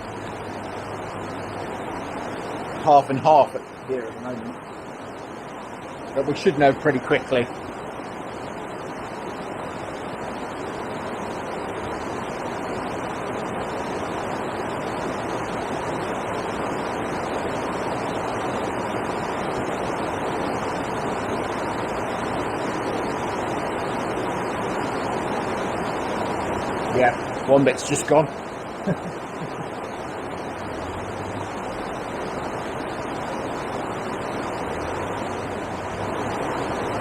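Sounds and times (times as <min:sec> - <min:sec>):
river water rushing over weir: 0:00.0 - 0:37.0.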